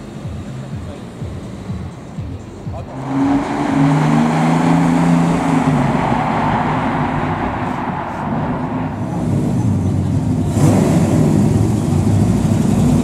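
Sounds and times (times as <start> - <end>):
car engine driving off: 0.0 - 13.0.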